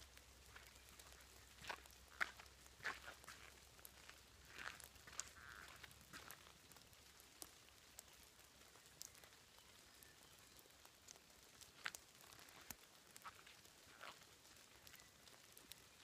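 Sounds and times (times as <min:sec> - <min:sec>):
raindrops ticking: 0:00.0 - 0:16.0.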